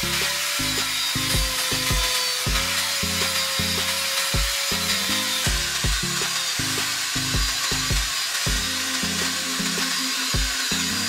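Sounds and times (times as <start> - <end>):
angle grinder grinding steel: 0.0 - 11.0
music with steady beat: 0.0 - 11.0.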